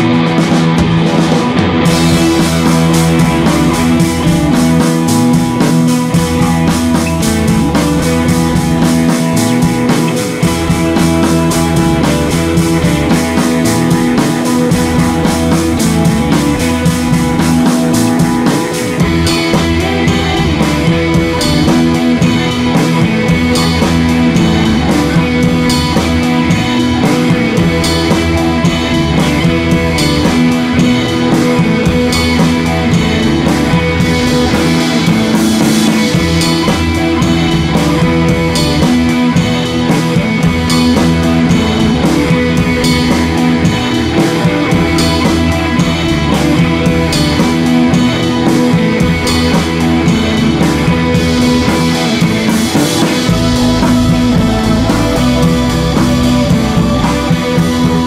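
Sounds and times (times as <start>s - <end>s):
rock music with electric guitar: 0.0s - 58.0s.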